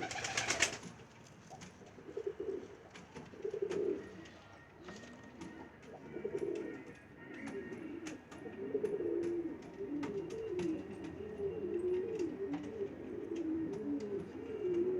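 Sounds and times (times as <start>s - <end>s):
pigeons cooing: 0.0s - 0.8s, 1.9s - 4.3s, 4.9s - 14.9s.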